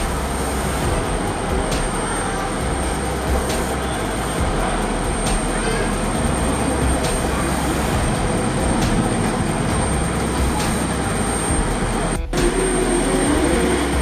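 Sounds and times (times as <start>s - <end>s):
jet engines roaring with high whine: 0.0s - 14.0s.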